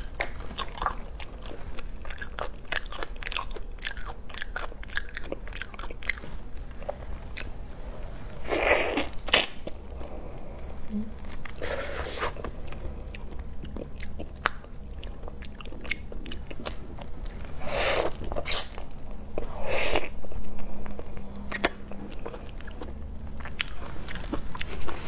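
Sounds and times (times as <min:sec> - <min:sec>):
chewing crunchy shrimp shells: 0:00.0 - 0:07.6, 0:08.4 - 0:24.7.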